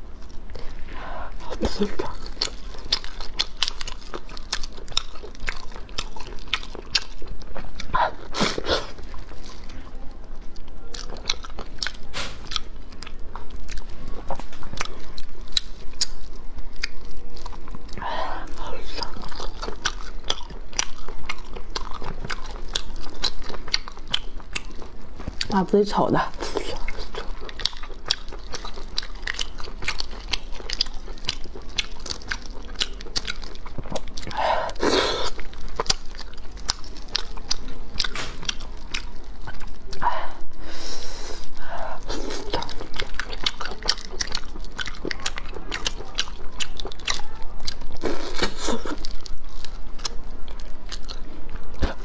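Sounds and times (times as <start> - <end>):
chewing with wet mouth smacks: 0.2 - 40.5, 41.4 - 52.0.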